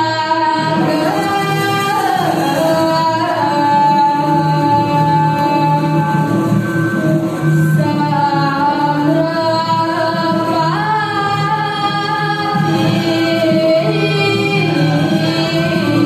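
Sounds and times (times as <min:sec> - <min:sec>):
women singing: 0:00.0 - 0:07.2, 0:07.8 - 0:16.0.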